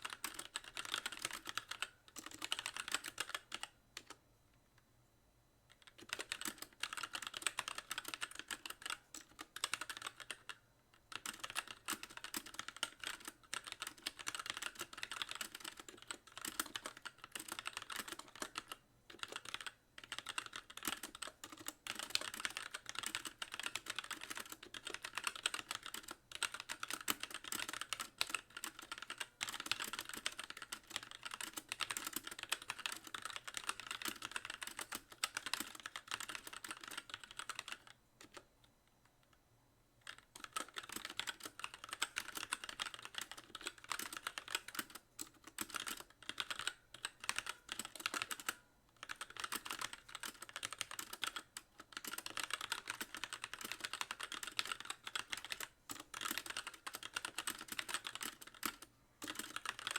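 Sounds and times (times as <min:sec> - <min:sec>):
mechanical keyboard typing: 0:00.0 - 0:04.2, 0:05.7 - 0:38.5, 0:40.0 - 0:59.9.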